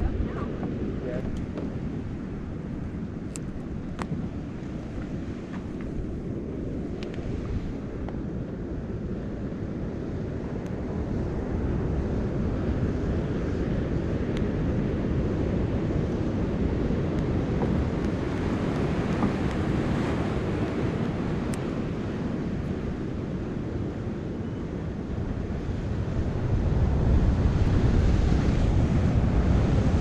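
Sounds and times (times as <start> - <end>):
ocean surf: 0.0 - 30.0
wind buffeting microphone: 0.0 - 30.0.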